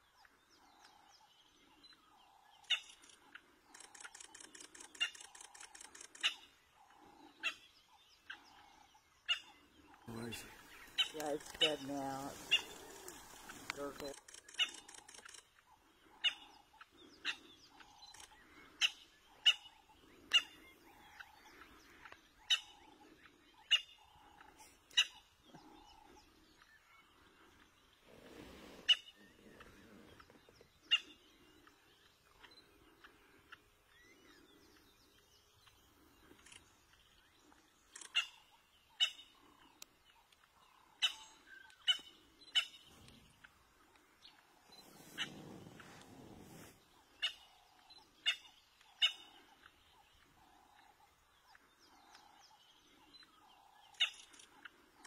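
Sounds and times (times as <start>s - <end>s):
bird calling: 1.8s - 55.0s.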